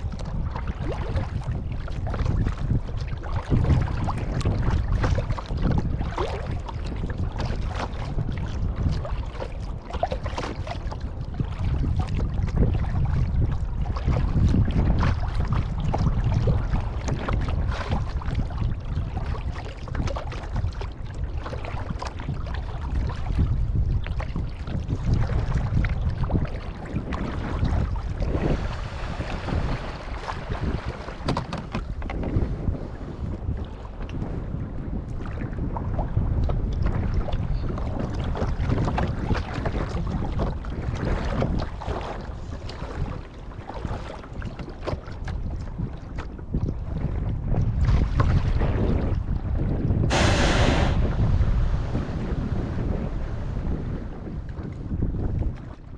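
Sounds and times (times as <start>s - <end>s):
paddle splashing water: 0.0s - 34.4s, 35.0s - 55.9s
wind rumble on microphone: 0.0s - 55.9s.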